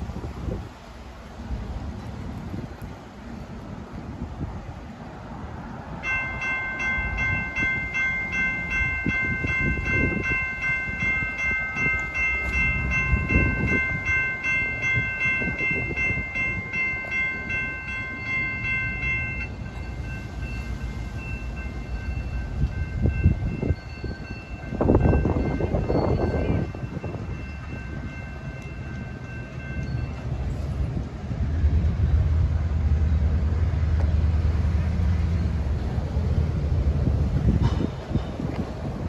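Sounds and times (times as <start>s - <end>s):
low gusty rumbling: 0.0s - 39.0s
crossing signal bells ringing: 5.9s - 38.6s.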